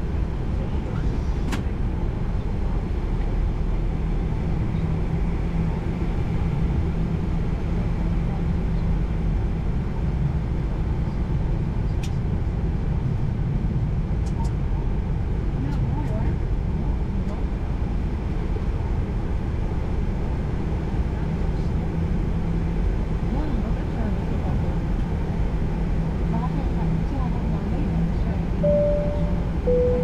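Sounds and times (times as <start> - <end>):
airplane taxiing rumble: 0.0 - 30.0.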